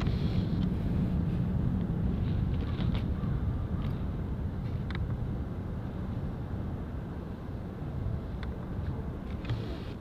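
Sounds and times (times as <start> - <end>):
distant jet airliner rumble: 0.0 - 10.0.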